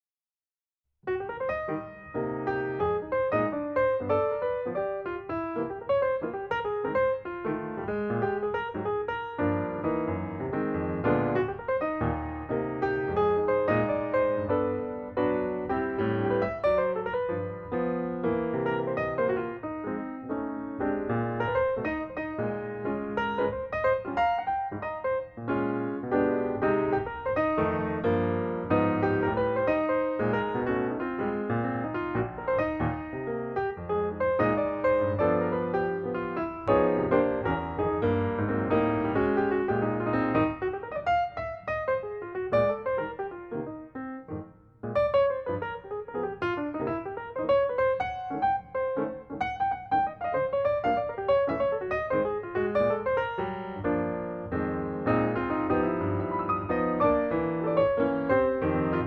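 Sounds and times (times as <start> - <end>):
piano music: 1.0 - 59.0.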